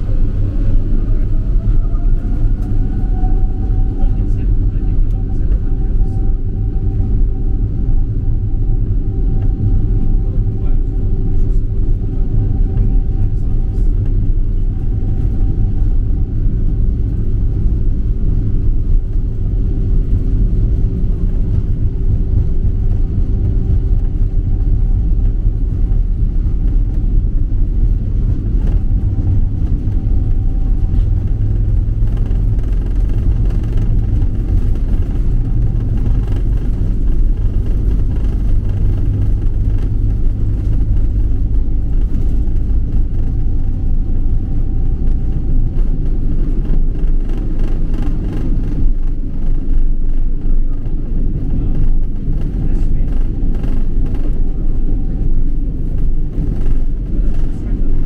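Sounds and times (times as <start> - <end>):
aircraft cabin rumble: 0.0 - 58.0
faint engine whine: 0.0 - 58.0.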